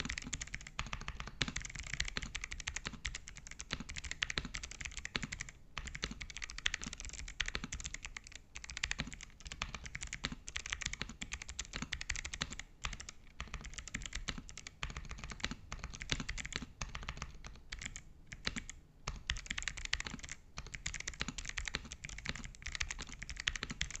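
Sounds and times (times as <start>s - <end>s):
clicky mechanical keyboard typing: 0.0s - 24.0s.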